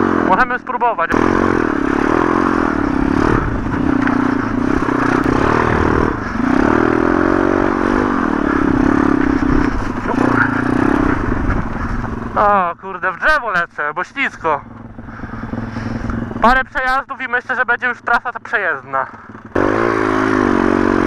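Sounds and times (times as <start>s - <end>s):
pit bike engine revving: 0.0s - 13.0s, 14.4s - 17.3s, 19.0s - 21.0s.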